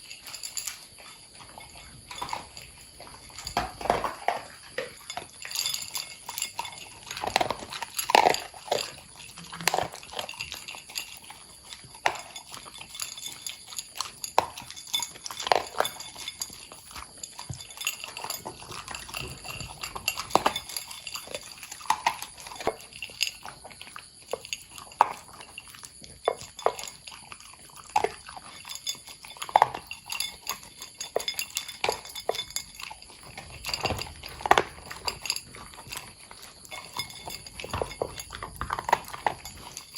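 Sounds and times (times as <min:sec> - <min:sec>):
bowl clinking: 0:00.0 - 0:27.5, 0:28.1 - 0:39.9
dogs crunching and chewing kibble: 0:00.0 - 0:39.9.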